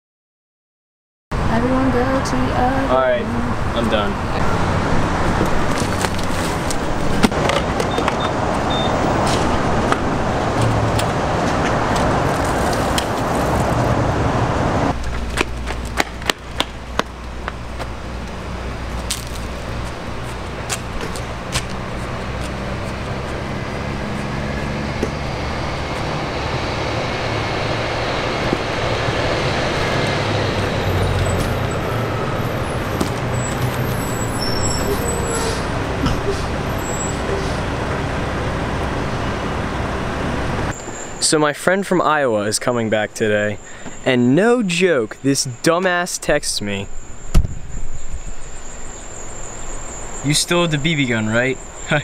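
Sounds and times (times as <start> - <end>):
road traffic rumble and hiss: 1.3 - 52.0.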